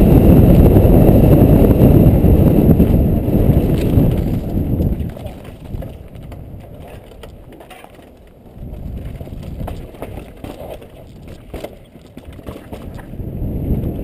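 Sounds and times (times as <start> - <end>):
bike knocking and rattling: 0.0 - 14.0
bike tyres rumbling on dirt: 0.0 - 14.0
wind on microphone: 0.0 - 14.0.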